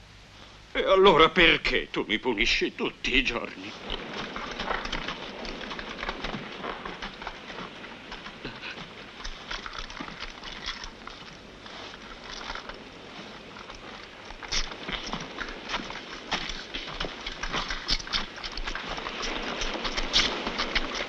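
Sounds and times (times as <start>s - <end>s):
steady hiss: 0.0s - 21.0s
footsteps on rocky path: 3.4s - 21.0s.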